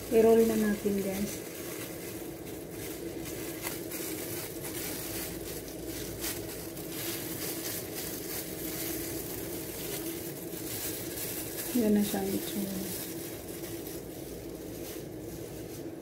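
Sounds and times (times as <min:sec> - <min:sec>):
appliance humming: 0:00.0 - 0:16.0
plastic gloves crinkling: 0:00.0 - 0:16.0.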